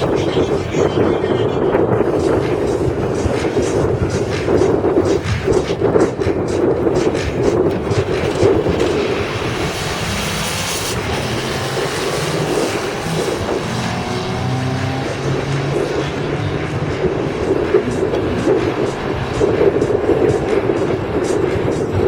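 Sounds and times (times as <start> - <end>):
drag racing car engines: 0.0 - 22.0.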